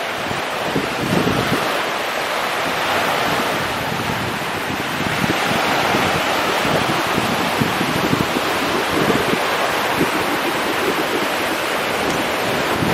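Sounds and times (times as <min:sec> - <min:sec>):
waves washing up a beach: 0:00.0 - 0:12.9
wind buffeting microphone: 0:00.0 - 0:12.9.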